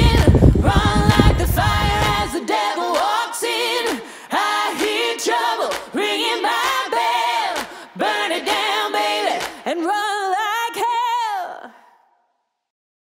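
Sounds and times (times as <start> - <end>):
voices singing in harmony: 0.0 - 12.0.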